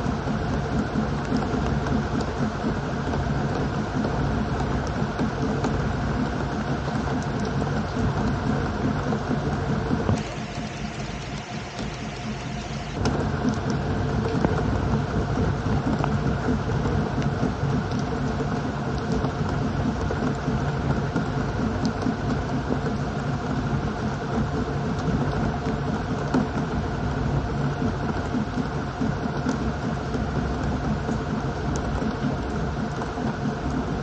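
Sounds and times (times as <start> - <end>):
continuous rushing noise: 0.0 - 34.0
outboard motor running: 0.0 - 34.0.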